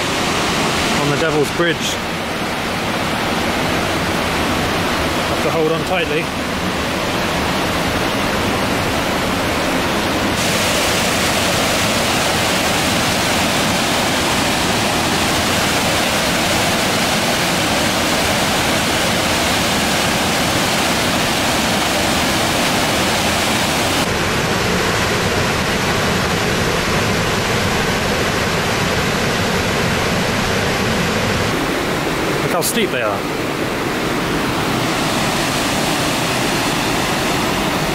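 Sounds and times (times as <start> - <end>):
waterfall rushing over rocks: 0.0 - 37.9.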